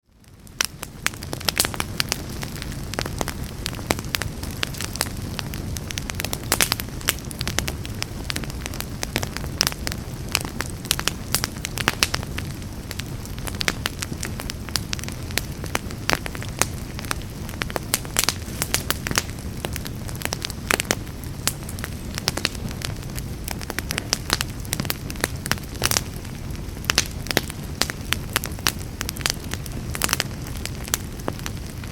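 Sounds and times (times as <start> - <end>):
low rumble of flames: 0.0 - 31.9
wood crackling and popping: 0.0 - 31.9.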